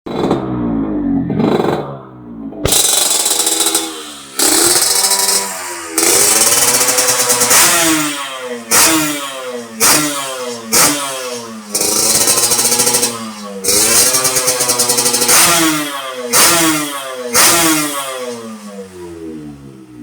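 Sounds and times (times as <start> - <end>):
two-stroke engine revving: 0.1 - 20.0.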